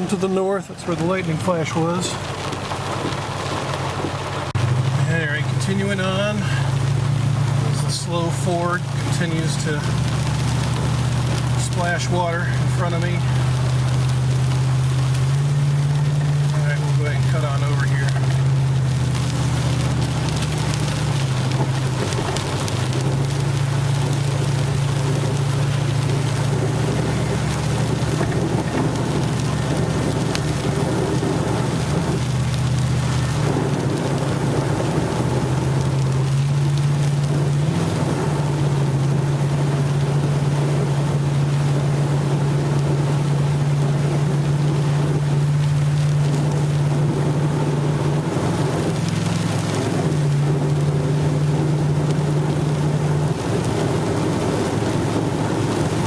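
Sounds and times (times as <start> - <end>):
rain beating on vehicle: 0.0 - 56.0
truck engine hum: 0.0 - 56.0
water hissing under tyres: 0.0 - 56.0.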